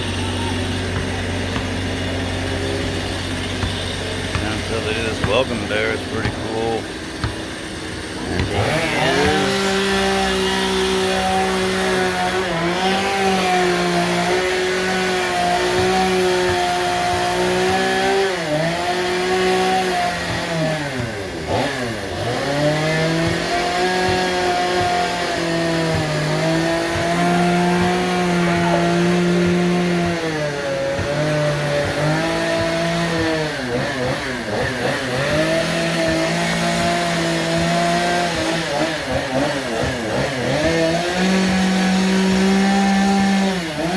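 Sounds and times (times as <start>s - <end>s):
chainsaw carving wood: 0.0s - 43.9s.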